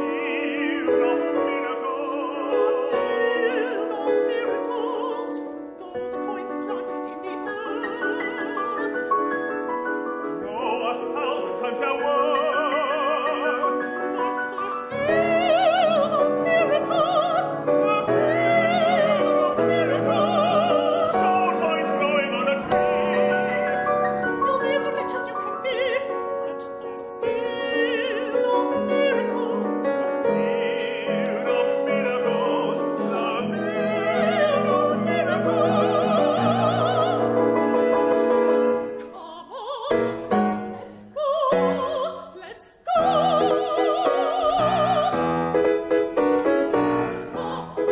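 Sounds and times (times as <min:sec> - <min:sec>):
opera singers with vibrato: 0:00.0 - 0:47.9
piano accompaniment: 0:00.0 - 0:47.9.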